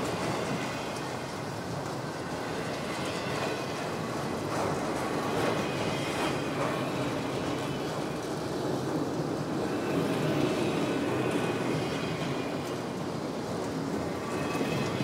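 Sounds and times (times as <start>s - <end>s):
model train wheels rumbling on rail: 0.0s - 15.0s.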